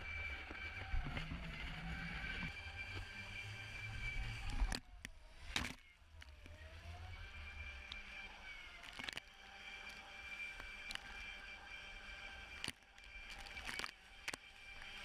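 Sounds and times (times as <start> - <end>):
jet drive whining: 0.0 - 15.0.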